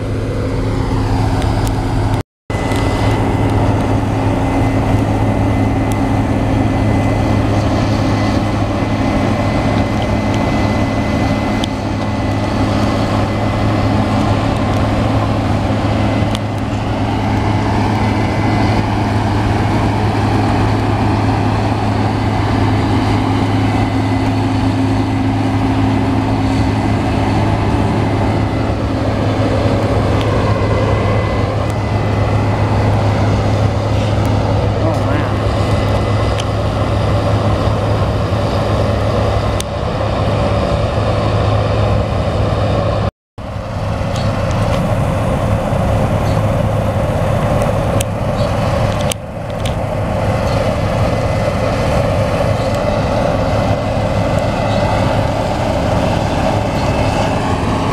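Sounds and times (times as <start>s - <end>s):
combine harvester engine drone: 0.0s - 57.9s
thin high whine: 0.0s - 57.9s.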